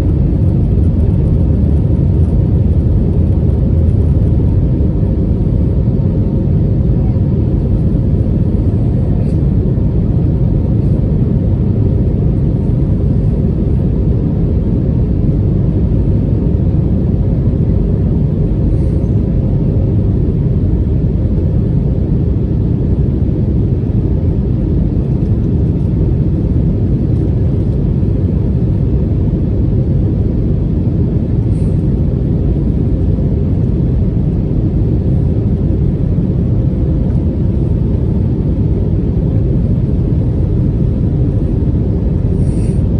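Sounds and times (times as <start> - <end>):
airplane engines and airflow rumble: 0.0 - 42.9
faint steady hums: 0.0 - 42.9.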